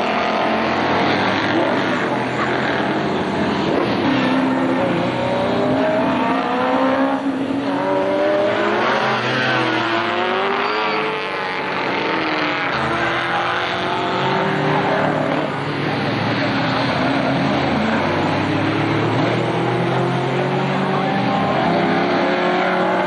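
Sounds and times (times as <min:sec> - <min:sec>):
racing car engines revving past: 0:00.0 - 0:23.0.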